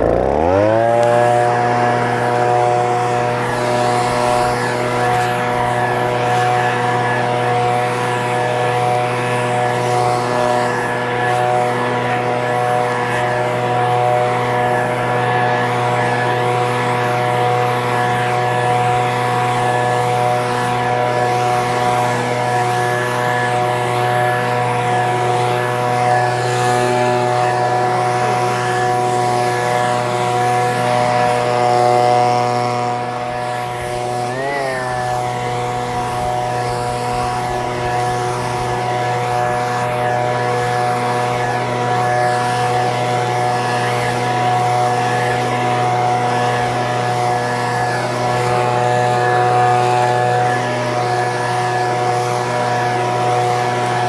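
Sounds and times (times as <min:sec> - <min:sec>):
leaf blower running: 0:00.0 - 0:54.0.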